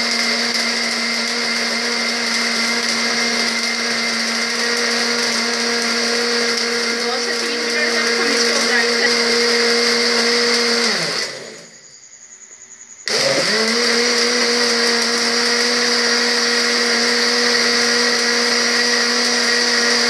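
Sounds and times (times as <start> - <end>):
electric blender grinding: 0.0 - 11.7, 13.0 - 20.0.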